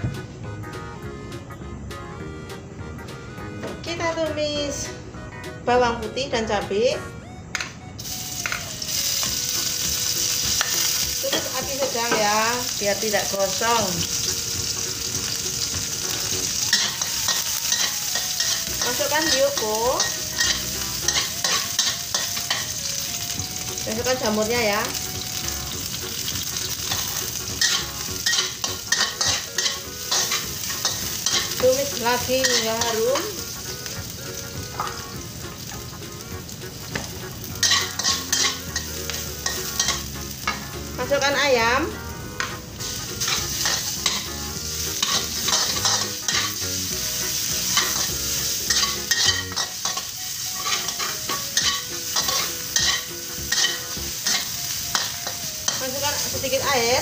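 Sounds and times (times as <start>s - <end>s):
food sizzling in hot oil: 8.0s - 57.0s
spatula scraping wok: 8.5s - 41.3s, 42.3s - 57.0s.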